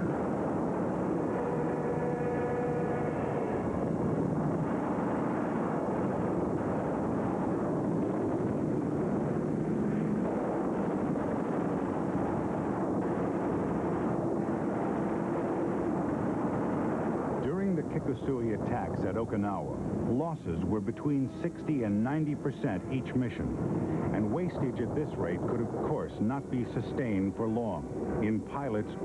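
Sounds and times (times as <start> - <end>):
aircraft engine rumble: 0.0 - 29.0.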